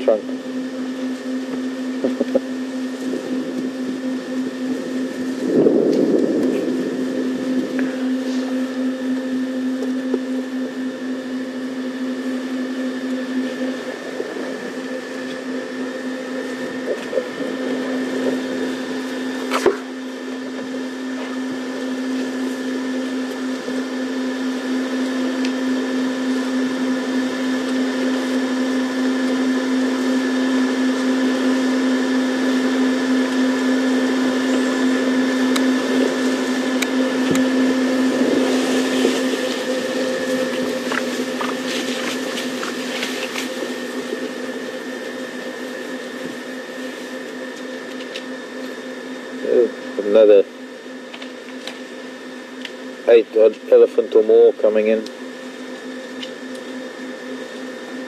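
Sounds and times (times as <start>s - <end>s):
engine rumble: 0.0s - 56.7s
vehicle engine humming: 0.0s - 58.0s.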